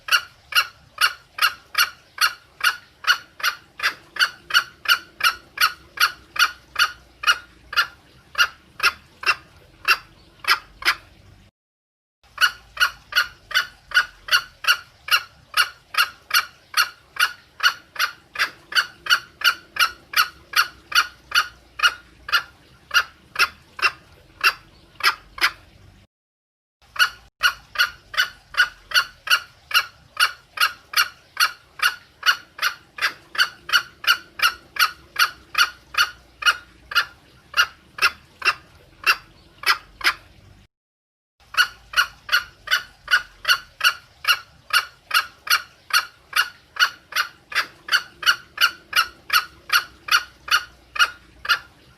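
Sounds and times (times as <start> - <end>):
junglefowl hen clucking: 0.0 - 11.1, 12.4 - 25.6, 27.0 - 40.2, 41.5 - 51.7.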